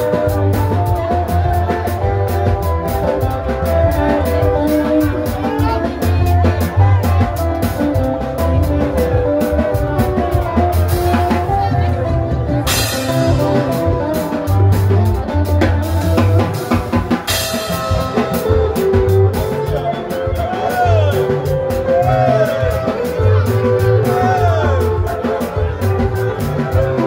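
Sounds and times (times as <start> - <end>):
live band music: 0.0 - 27.0.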